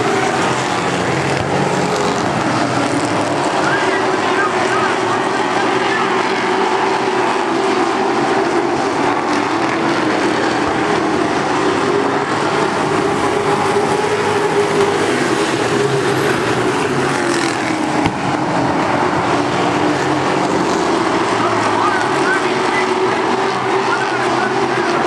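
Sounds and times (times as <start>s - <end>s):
racing truck engines at speed: 0.0s - 25.0s.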